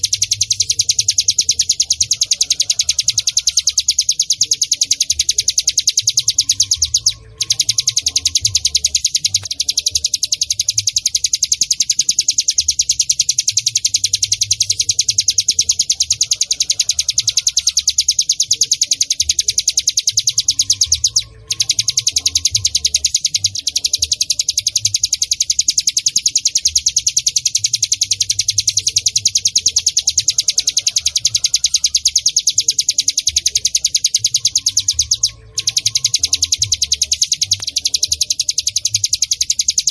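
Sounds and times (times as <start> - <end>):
bird singing high sharp chirps: 0.0 - 39.9.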